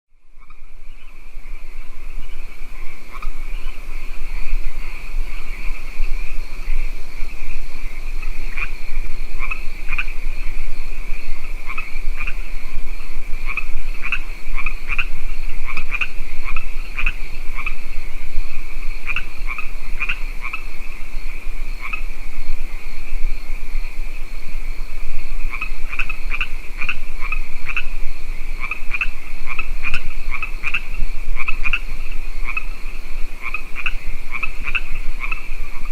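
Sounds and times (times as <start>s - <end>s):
frogs croaking: 0.1s - 35.9s.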